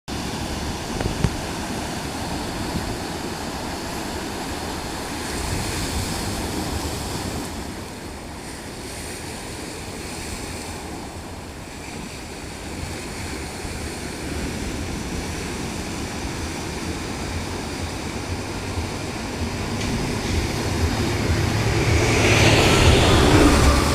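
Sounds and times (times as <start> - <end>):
sea waves washing: 0.1 - 23.9
wind on microphone: 0.1 - 23.9.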